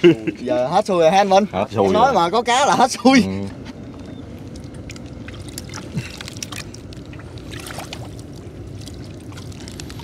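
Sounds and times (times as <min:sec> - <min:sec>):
boat engine low rumble: 0:00.0 - 0:10.0.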